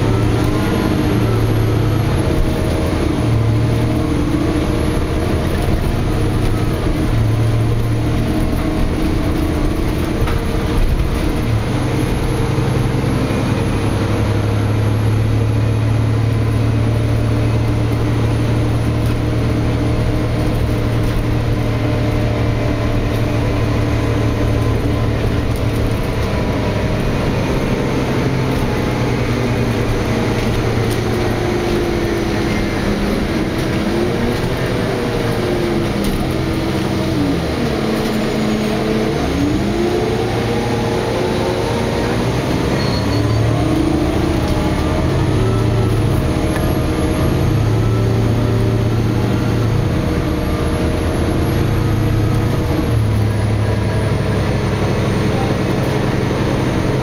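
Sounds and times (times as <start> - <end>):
bus diesel engine drone: 0.0 - 57.0
road and tyre noise: 0.0 - 57.0.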